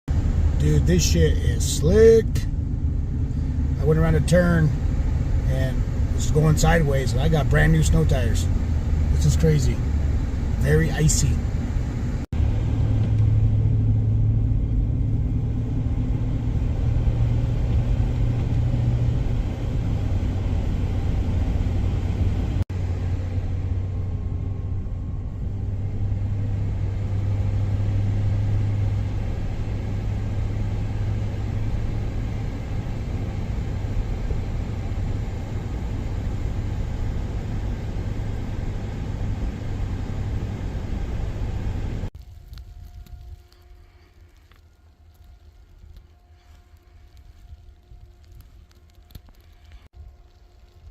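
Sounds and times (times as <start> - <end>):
car driving on snowy road: 0.1 - 50.9.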